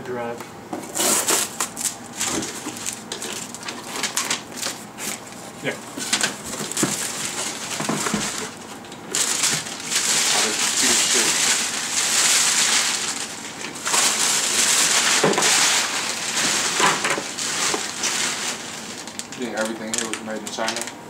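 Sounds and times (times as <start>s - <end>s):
plastic and paper wrapping crinkling: 0.9s - 21.0s.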